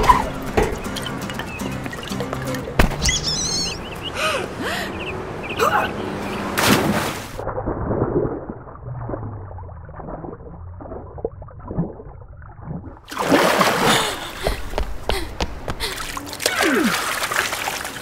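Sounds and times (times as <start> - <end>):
water splashing and sloshing: 0.0 - 18.0.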